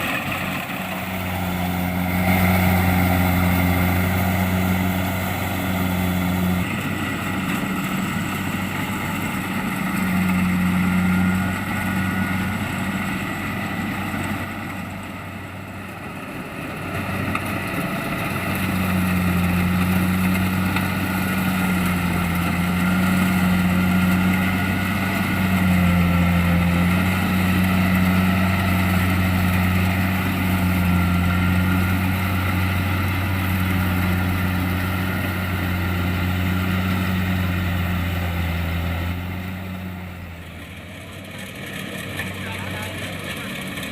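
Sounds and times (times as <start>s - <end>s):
diesel engine droning: 0.0s - 43.9s.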